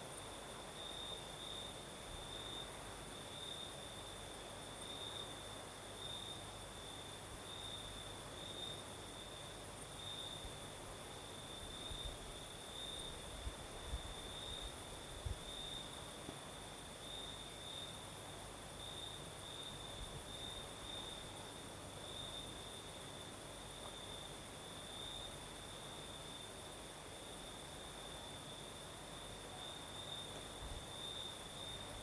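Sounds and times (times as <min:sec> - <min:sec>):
crickets chirping: 0:00.0 - 0:32.0
night breeze hiss: 0:00.0 - 0:32.0.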